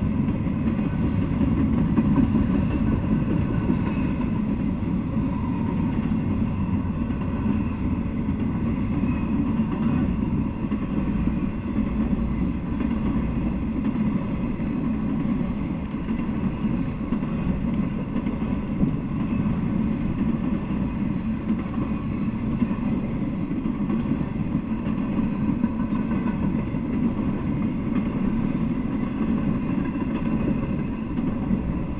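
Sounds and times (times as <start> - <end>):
freight train rumbling past: 0.0 - 31.9.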